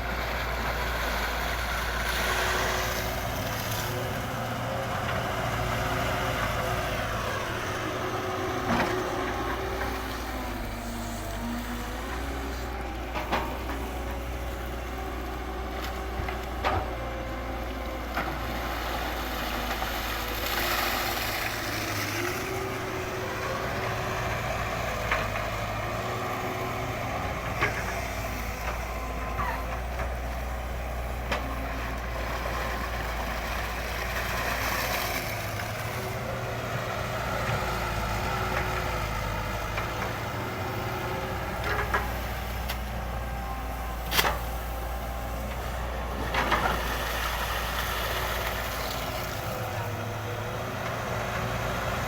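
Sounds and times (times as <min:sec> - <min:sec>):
model excavator motor hum: 0:00.0 - 0:52.0.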